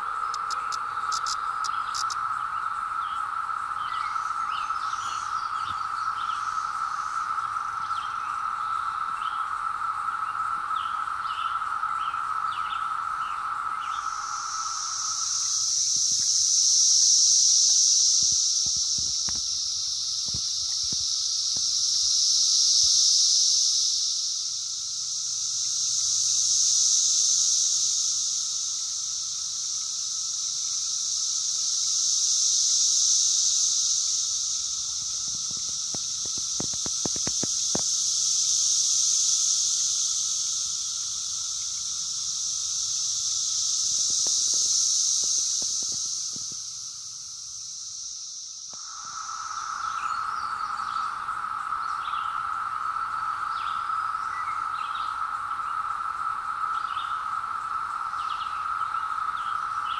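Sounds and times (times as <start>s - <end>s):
cicadas buzzing shrilly: 0.0s - 59.9s.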